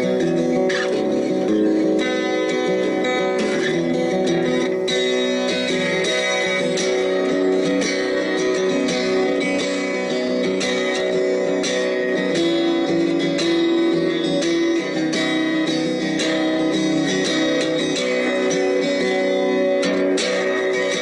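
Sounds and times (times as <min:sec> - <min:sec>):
guitar music: 0:00.0 - 0:21.0.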